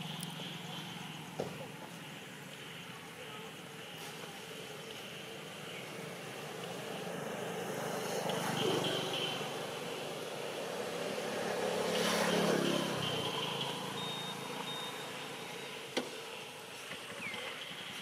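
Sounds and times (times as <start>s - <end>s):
motor vehicles passing: 0.0s - 18.0s.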